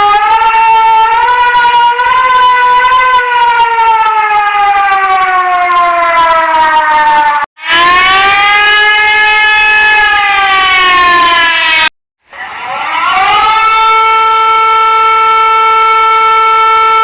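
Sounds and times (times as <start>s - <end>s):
warning siren wailing: 0.0s - 17.0s.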